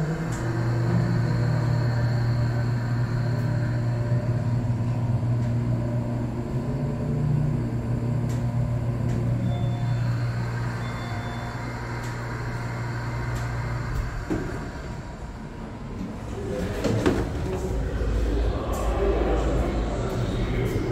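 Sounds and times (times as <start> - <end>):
subway train rumbling: 0.0 - 20.9.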